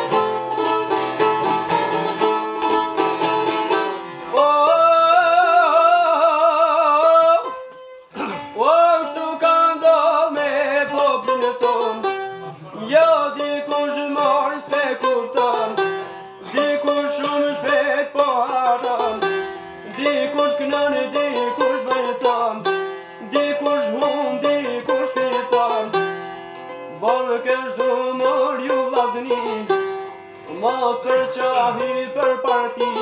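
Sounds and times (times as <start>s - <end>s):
plucked lute melody: 0.0s - 33.0s.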